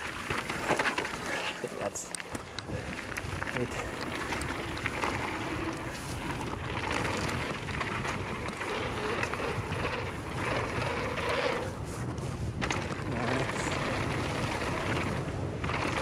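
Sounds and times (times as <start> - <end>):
bike clicks and rattles: 0.0 - 16.0
bike tyres rolling on gravel: 0.0 - 16.0
wind rushing over microphone: 2.3 - 16.0.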